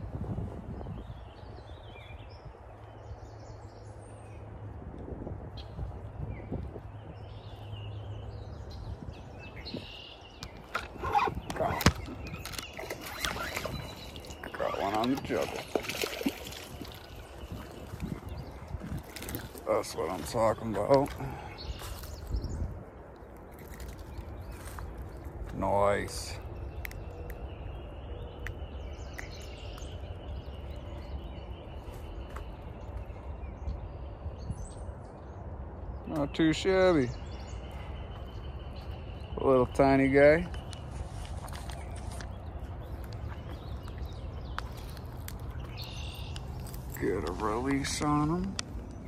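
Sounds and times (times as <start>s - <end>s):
faint birds chirping: 0.0s - 49.0s
low rumble on microphone: 0.0s - 49.0s.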